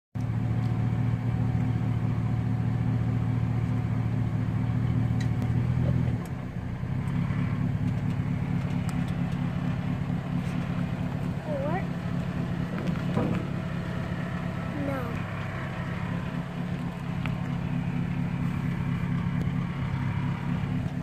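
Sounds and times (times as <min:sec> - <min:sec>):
truck engine running: 0:00.2 - 0:21.0.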